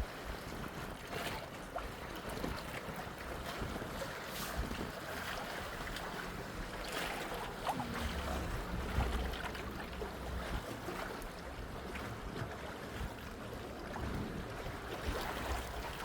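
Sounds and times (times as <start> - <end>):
wind rumbling on microphone: 0.0 - 16.0
moving water washing: 1.3 - 16.0.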